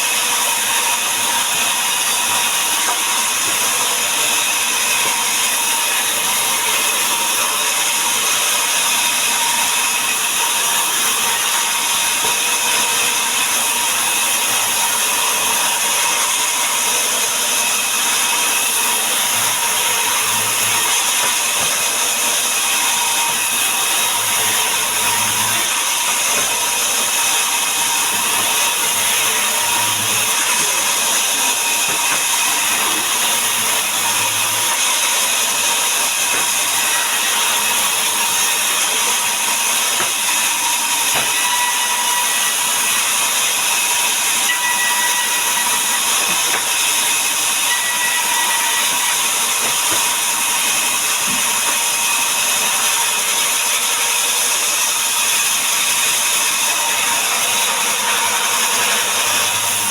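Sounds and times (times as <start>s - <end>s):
powered wood saw cutting: 0.0s - 59.9s.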